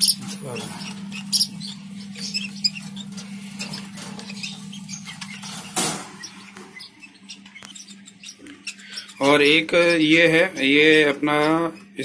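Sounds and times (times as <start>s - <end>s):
bird chicks squeaky chirps: 0.0s - 12.0s
steady low hum: 0.0s - 12.0s.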